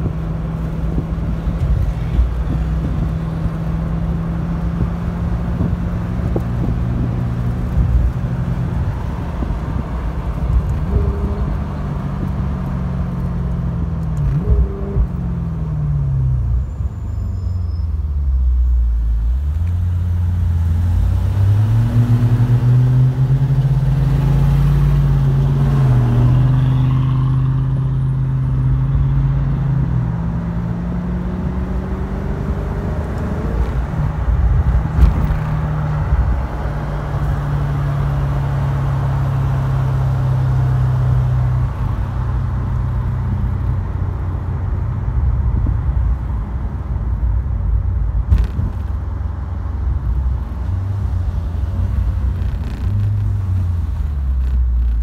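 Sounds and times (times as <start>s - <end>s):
car engine from inside cabin: 0.0s - 16.6s, 18.3s - 55.0s.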